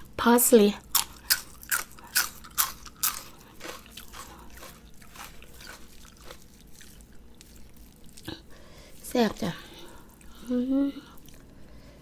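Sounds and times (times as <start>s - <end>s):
crunchy chewing of parsley: 0.9s - 11.6s.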